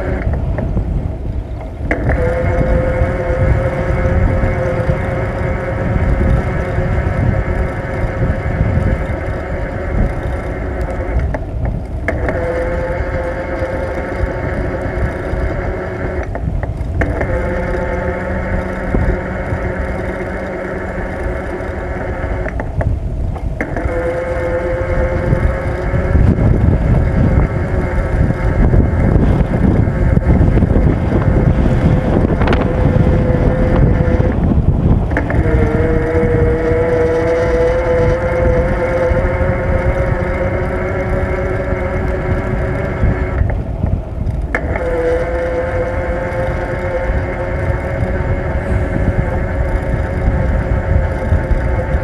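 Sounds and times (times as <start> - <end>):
steady pitched whine: 0.0 - 52.0
tyres rumbling on road: 0.0 - 52.0
wind buffeting microphone: 0.0 - 52.0.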